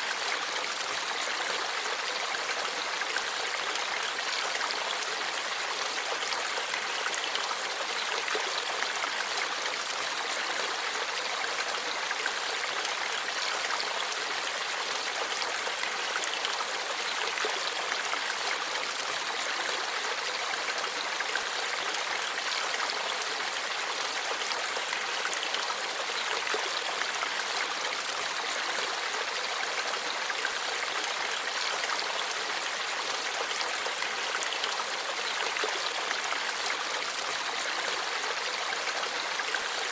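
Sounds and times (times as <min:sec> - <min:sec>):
forest stream babbling: 0:00.0 - 0:39.9.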